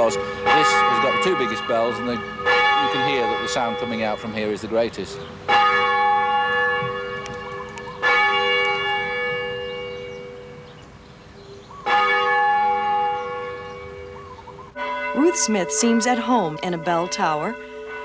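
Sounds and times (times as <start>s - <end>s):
church bell ringing: 0.0s - 10.9s, 11.8s - 18.0s.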